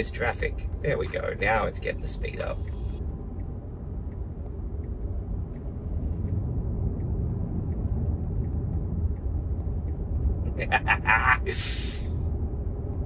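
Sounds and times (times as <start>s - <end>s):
turn signal ticking: 0.0s - 11.5s
tyre and road rumble in car: 0.0s - 13.0s.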